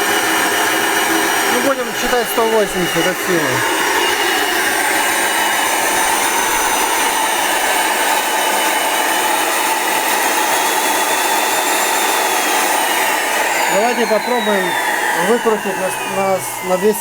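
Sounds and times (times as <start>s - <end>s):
vacuum cleaner motor whining: 0.0s - 17.0s.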